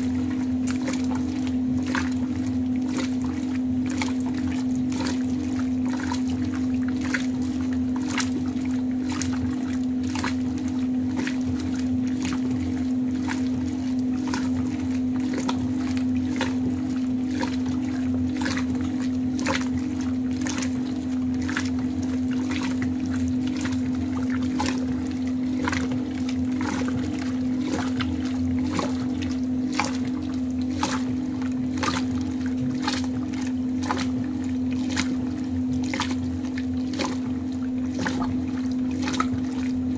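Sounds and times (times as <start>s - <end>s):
washing machine hum: 0.0s - 39.9s
water swishing and splashing: 0.0s - 39.9s.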